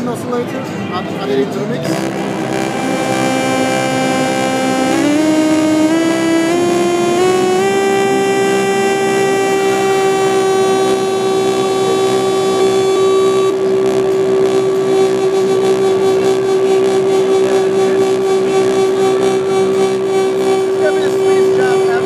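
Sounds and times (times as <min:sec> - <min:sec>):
buzzy synthesizer note: 0:01.7 - 0:22.0
fast rhythmic synth pulsing: 0:01.8 - 0:22.0.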